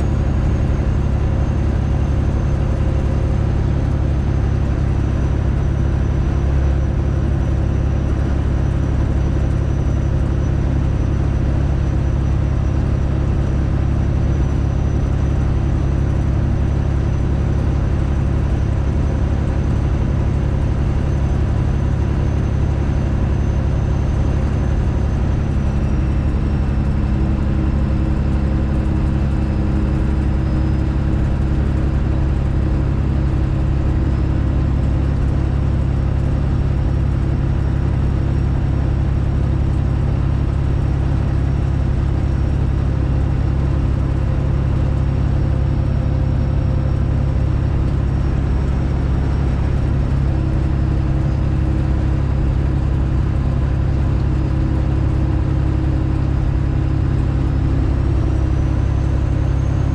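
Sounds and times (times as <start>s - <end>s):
truck diesel engine drone: 0.0s - 59.9s.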